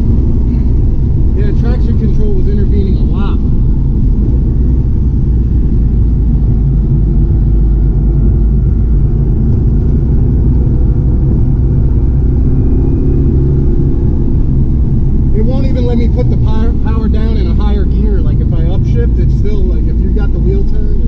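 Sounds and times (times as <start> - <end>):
car engine low rumble: 0.0 - 21.0
road and tyre noise: 0.0 - 21.0.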